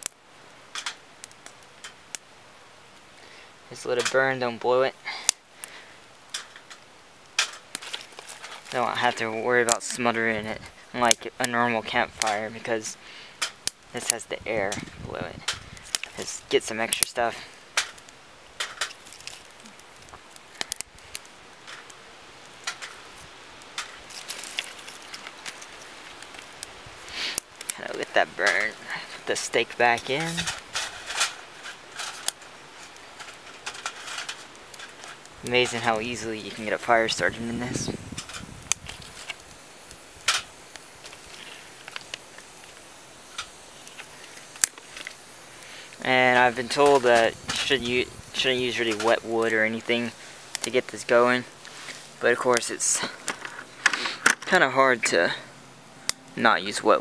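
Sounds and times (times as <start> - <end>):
dry twigs snapping: 0.0 - 2.3, 5.2 - 11.2, 13.3 - 36.7, 38.1 - 48.2, 48.9 - 54.6
faint steady hiss: 0.0 - 57.0
small wood fire crackling: 0.0 - 57.0.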